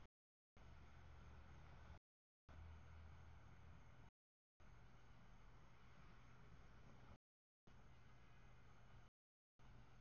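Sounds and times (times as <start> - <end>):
faint hum and hiss: 0.0 - 10.0.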